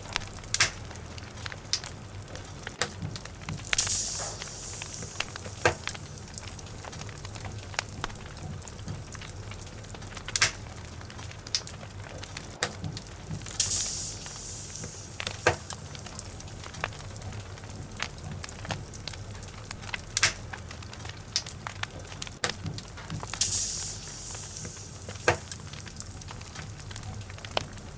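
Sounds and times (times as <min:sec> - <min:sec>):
fire hiss: 0:00.0 - 0:27.9
logs crackling in fireplace: 0:00.0 - 0:27.9.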